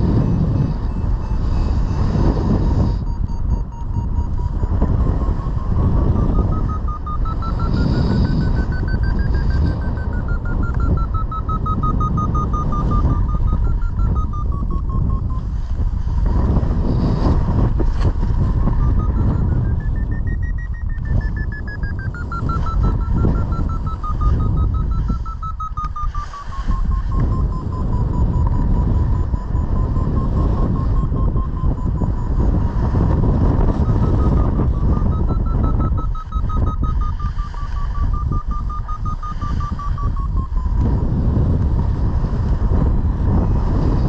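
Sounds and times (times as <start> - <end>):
rapid high beeps: 0.0 - 15.5, 18.4 - 41.2
wind rushing over microphone: 0.0 - 44.0.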